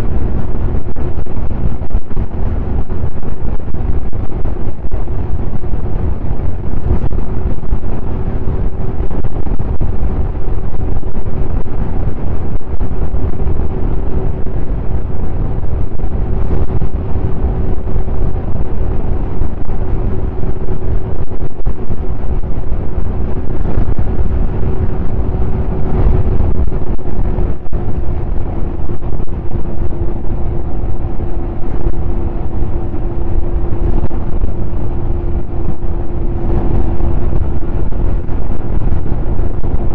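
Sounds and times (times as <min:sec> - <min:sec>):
snowmobile engine droning: 0:00.0 - 0:39.9
wind buffeting microphone: 0:00.0 - 0:39.9.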